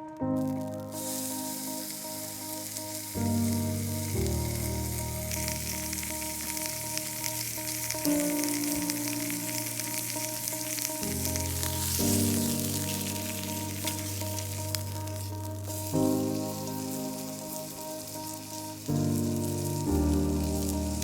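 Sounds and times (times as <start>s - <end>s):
background music with held chords: 0.0s - 21.0s
food sizzling in a pan: 0.4s - 21.0s.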